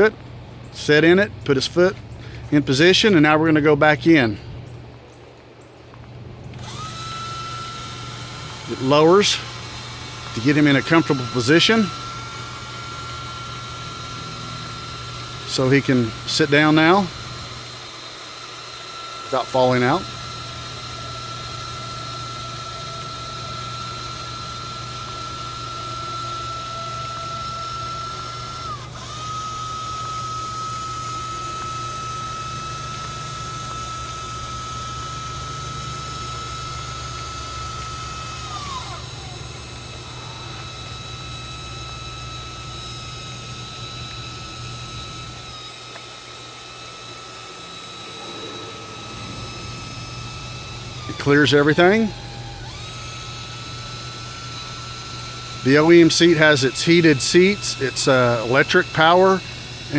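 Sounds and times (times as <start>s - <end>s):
electric motor whining: 6.5s - 59.9s.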